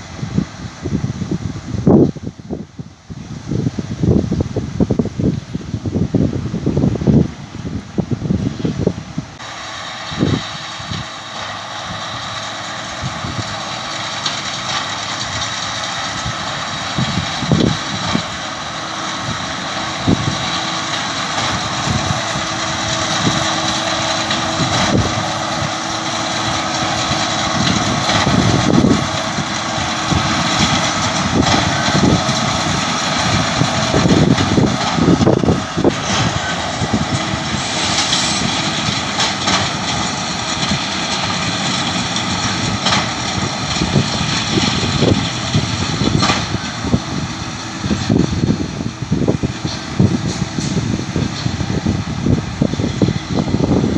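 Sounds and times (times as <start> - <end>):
tractor engine running: 0.0 - 53.9
wind buffeting microphone: 0.0 - 53.9.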